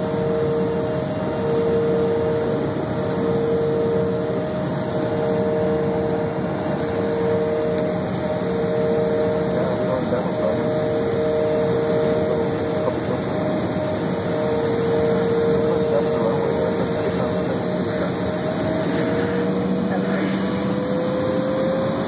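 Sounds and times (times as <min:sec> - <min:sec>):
jet engines rumbling: 0:00.0 - 0:22.0
two-tone engine whine: 0:00.0 - 0:22.0.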